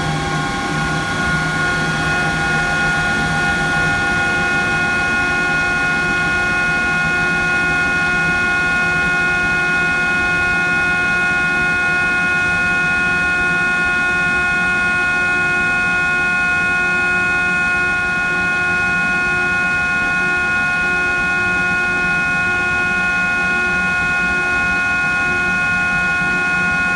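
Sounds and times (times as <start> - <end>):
high-pitched inverter whine: 0.0 - 26.9.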